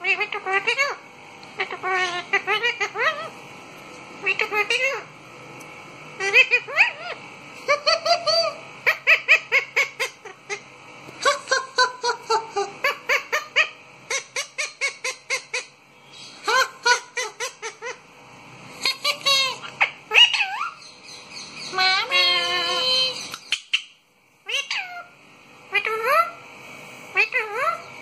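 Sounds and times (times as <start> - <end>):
parakeets calling: 0.0 - 28.0.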